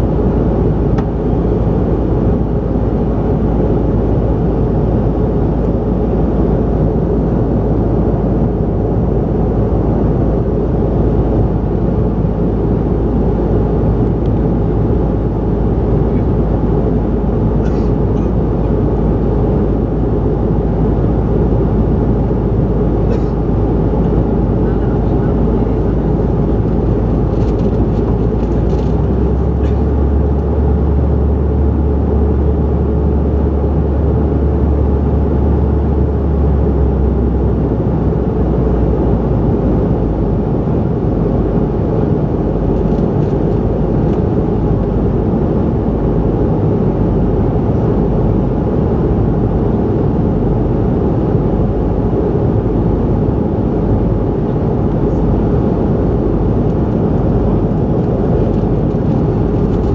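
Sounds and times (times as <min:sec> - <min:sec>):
airflow rush in cabin: 0:00.0 - 0:59.9
deep low drone: 0:00.0 - 0:59.9
jet engines: 0:00.0 - 0:59.9.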